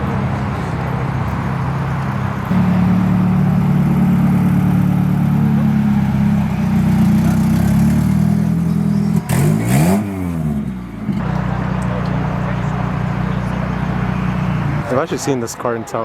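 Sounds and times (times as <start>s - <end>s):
car engine running: 0.0s - 15.4s.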